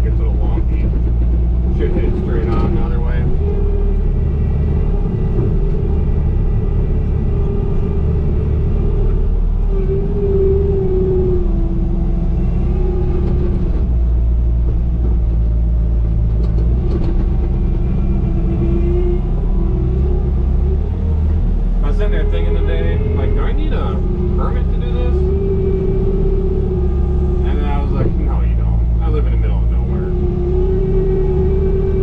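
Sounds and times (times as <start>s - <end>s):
diesel engine at high revs: 0.0s - 32.0s
hydraulic whine: 0.0s - 32.0s.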